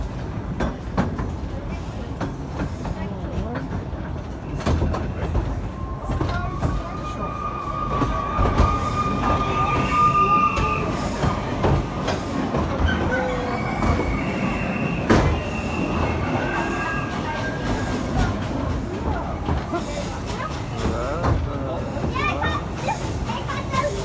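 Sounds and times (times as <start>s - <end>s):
train rumble: 0.0s - 24.0s
train wheels squealing on rails: 3.7s - 24.0s.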